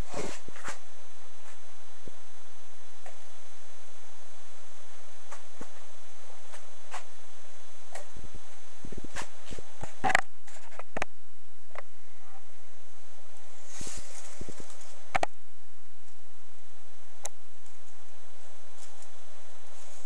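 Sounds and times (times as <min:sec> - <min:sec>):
electric arc buzzing and crackling: 0:00.0 - 0:11.9, 0:12.8 - 0:20.0.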